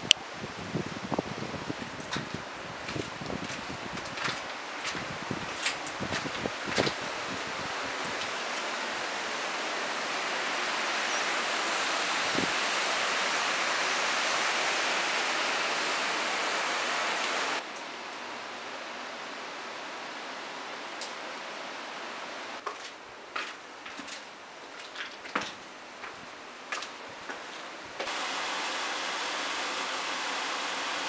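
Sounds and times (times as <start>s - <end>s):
rushing water hiss: 0.6s - 22.6s, 28.1s - 31.0s.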